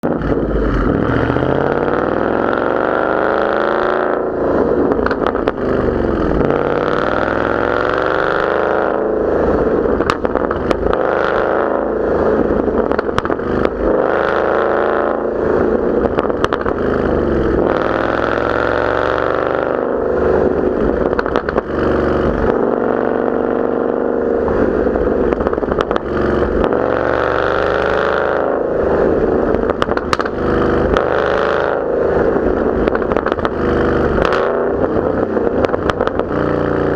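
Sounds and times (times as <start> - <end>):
car engine revving: 0.0 - 36.9
exhaust crackles and pops: 0.0 - 36.9.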